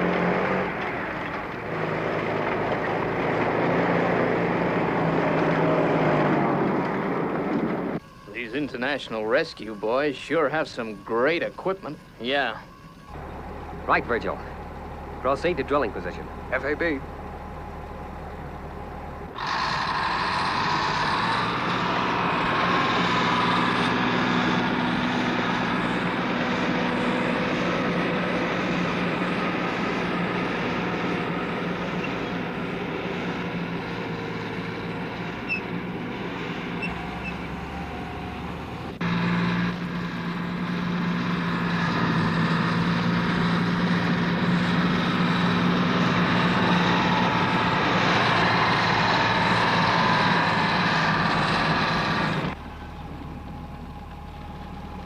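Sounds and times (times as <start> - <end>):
engine hum and whine: 0.0 - 55.0.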